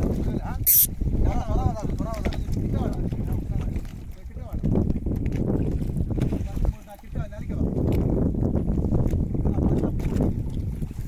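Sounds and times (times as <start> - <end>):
choppy water around boat: 0.0 - 11.0
wind buffeting microphone: 0.0 - 11.0.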